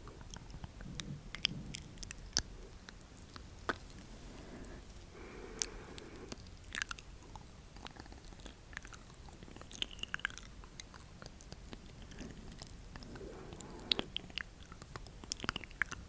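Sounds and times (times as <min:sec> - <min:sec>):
wet mouth clicks and smacks: 0:00.0 - 0:04.0, 0:05.6 - 0:16.0.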